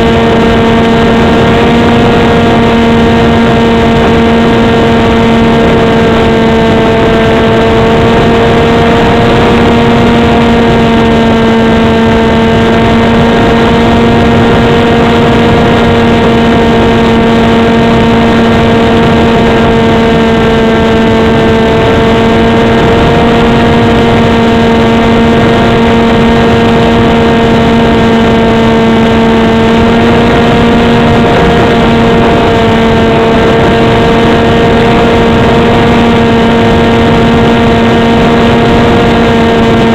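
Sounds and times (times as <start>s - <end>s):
model plane propeller droning: 0.0s - 39.9s
wind rushing on microphone: 0.0s - 39.9s.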